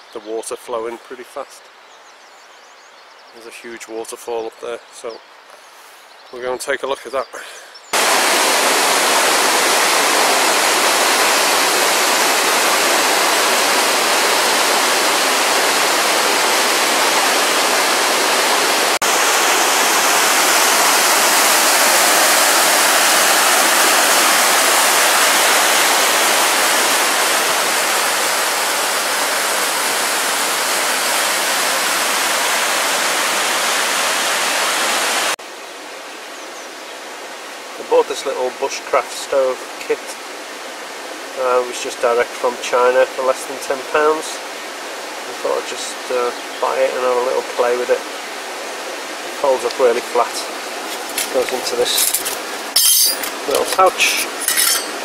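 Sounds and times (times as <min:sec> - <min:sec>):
waterfall rushing: 0:07.9 - 0:55.0.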